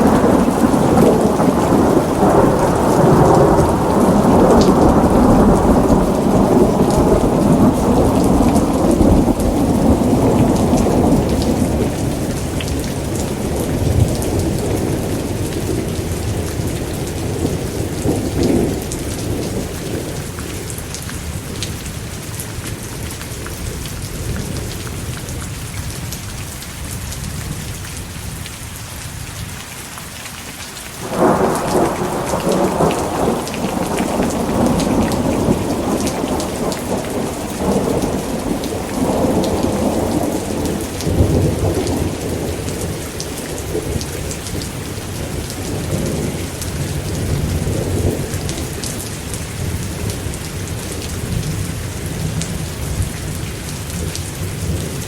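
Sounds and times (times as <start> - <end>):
rolling thunder: 0.0 - 21.0, 31.0 - 55.0
heavy rain: 0.0 - 55.0.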